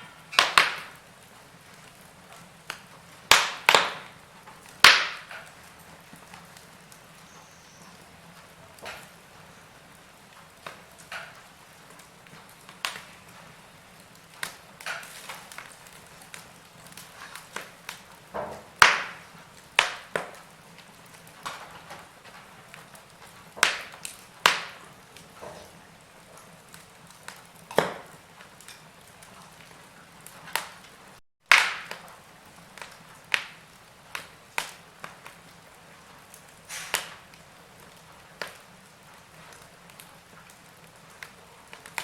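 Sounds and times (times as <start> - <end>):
faint fire hiss: 0.0 - 42.0
wood fire crackling and popping: 0.0 - 42.0.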